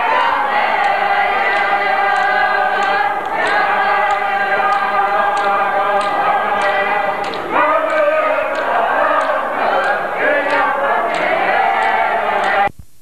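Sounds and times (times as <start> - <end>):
group of voices chanting: 0.0 - 12.7.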